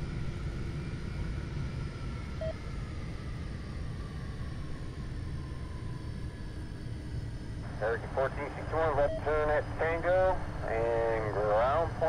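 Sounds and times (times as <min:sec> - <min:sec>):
faint engine whine: 0:00.0 - 0:12.0
jet engines rumbling: 0:00.0 - 0:12.0.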